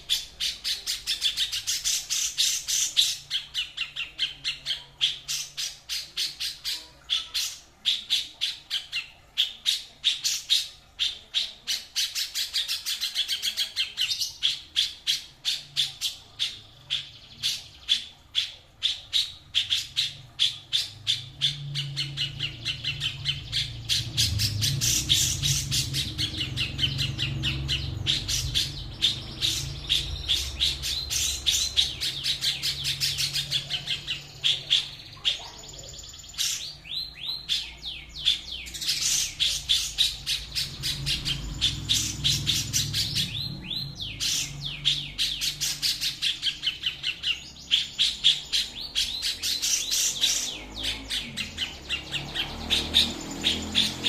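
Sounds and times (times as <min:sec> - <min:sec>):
songbird singing sharp repeated notes: 0:00.0 - 0:54.0.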